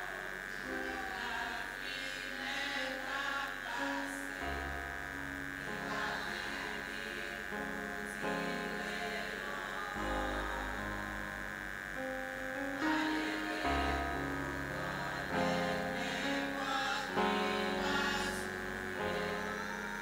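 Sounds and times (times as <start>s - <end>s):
women singing a hymn: 0.0s - 4.8s, 5.6s - 11.4s, 12.6s - 20.0s
high-pitched electrical whine: 0.0s - 20.0s.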